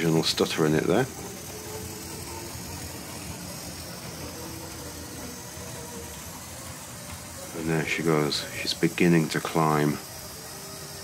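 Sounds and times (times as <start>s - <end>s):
small electric motor humming: 0.0s - 11.0s
wheels rolling on track: 0.0s - 11.0s.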